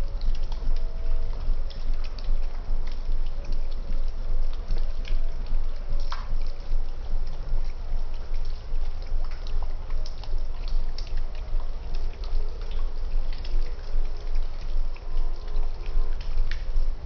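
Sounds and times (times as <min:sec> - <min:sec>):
drip-like clicks: 0:00.0 - 0:17.0
water trickling and splashing: 0:00.0 - 0:17.0.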